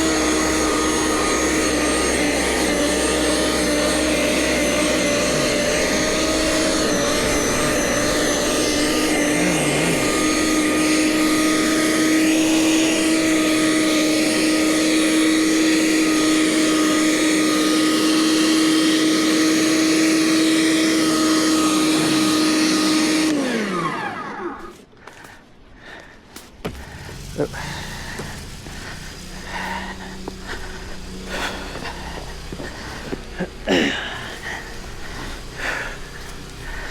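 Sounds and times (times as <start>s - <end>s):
engine winding down: 0.0s - 24.8s, 26.6s - 36.9s
snowblower engine running: 0.0s - 25.3s, 26.6s - 36.9s.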